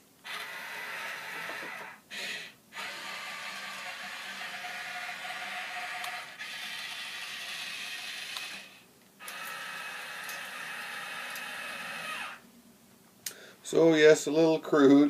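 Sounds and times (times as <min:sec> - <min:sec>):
toy electric motor whirring: 0:00.2 - 0:12.4.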